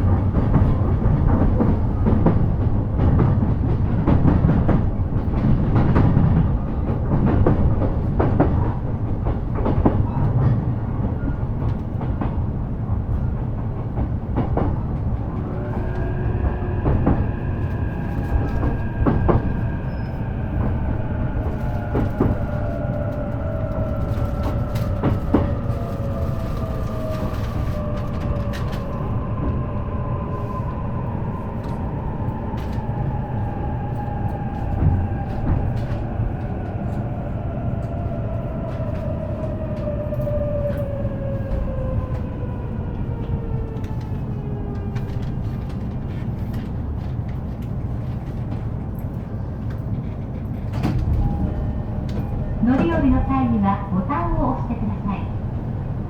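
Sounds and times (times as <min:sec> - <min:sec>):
rail joint clicks: 0:00.0 - 0:56.0
train wheel rumble: 0:00.0 - 0:56.0.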